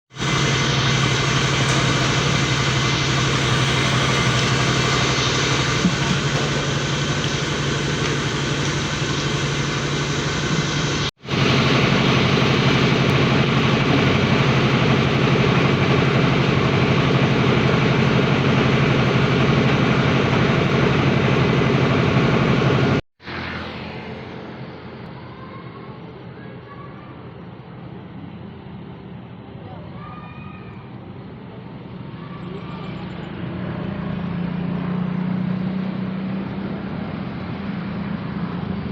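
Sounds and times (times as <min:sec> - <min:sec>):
machinery engine droning: 0:00.1 - 0:38.9.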